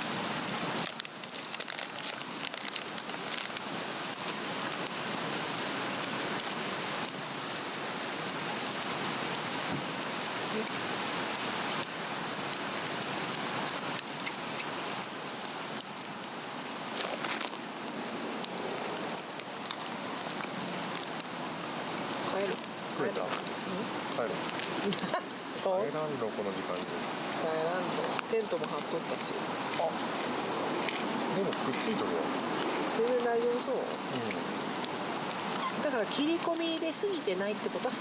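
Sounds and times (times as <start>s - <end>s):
log fire hissing and crackling: 0.0s - 38.0s.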